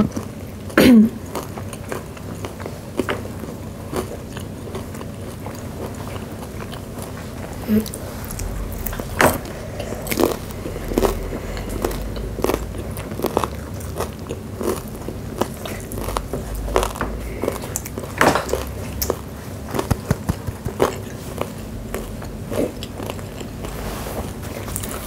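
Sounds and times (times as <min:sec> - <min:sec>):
people chewing crispy food: 0:00.0 - 0:25.0.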